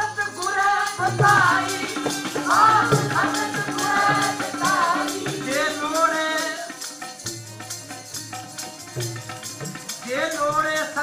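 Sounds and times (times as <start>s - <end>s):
harmonium: 0.0s - 11.0s
tabla drumming: 0.0s - 11.0s.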